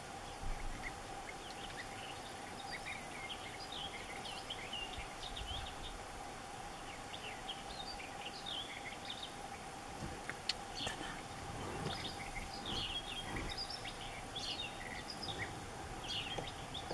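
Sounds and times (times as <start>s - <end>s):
birds chirping calls: 0.0s - 16.9s
steady background hum: 0.0s - 16.9s.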